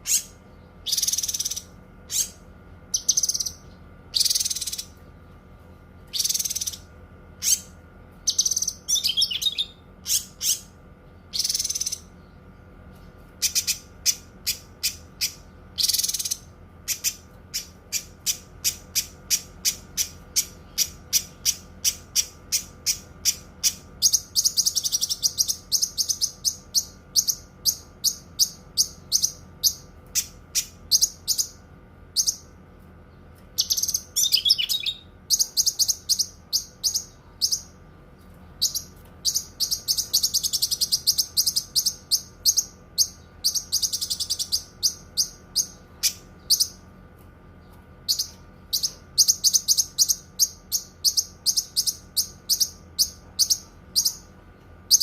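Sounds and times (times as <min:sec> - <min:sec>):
bird chirping and trilling: 0:00.0 - 0:05.3, 0:05.9 - 0:47.0, 0:47.6 - 0:55.0
faint steady hum: 0:00.0 - 0:55.0.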